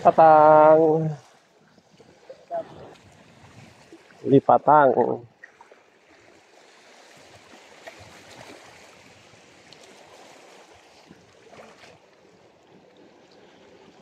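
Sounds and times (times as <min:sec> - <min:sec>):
small waves lapping over rocks: 0:00.0 - 0:14.0.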